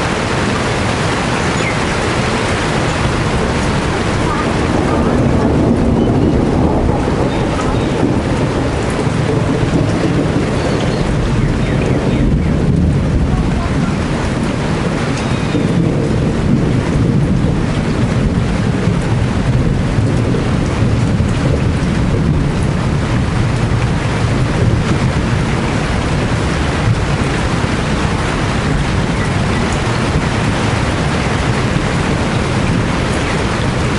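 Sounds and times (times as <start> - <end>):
deep continuous rumble: 0.0 - 33.9
heavy rain falling: 0.0 - 33.9.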